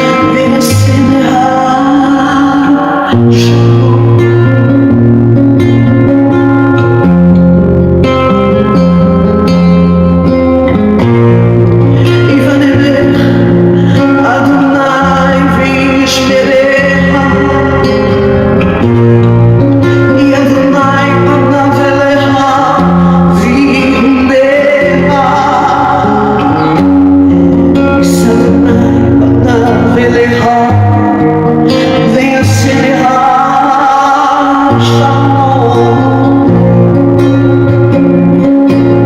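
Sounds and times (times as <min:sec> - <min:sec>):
guitar accompaniment: 0:00.0 - 0:39.0
person singing: 0:00.0 - 0:39.0.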